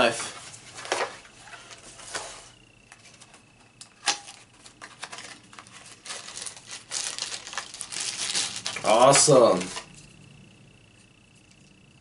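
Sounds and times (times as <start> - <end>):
cardboard packaging rustling: 0.0 - 10.0.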